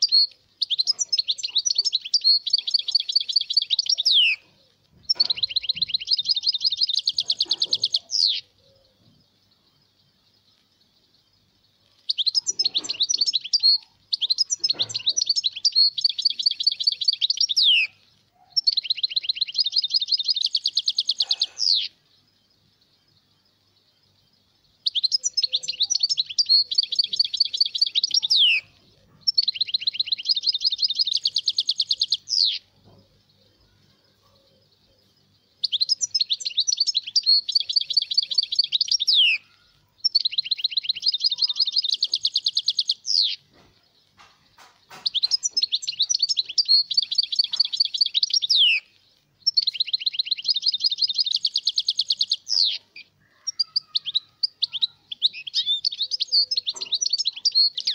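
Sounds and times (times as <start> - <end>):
goldfinch singing: 0.0 - 9.2, 11.9 - 22.0, 24.8 - 34.4, 35.3 - 57.9.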